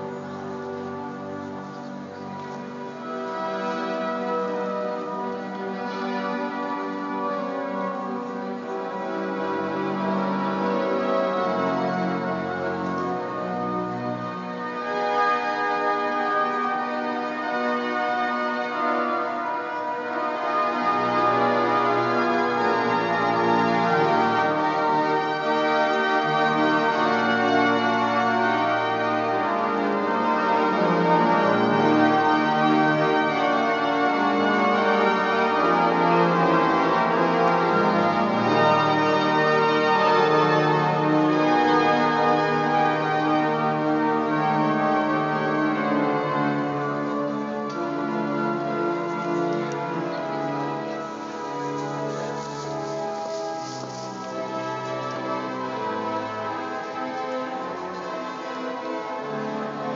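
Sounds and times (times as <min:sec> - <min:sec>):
low organ bass notes: 0:00.0 - 0:59.9
pipe organ chords: 0:00.0 - 0:59.9.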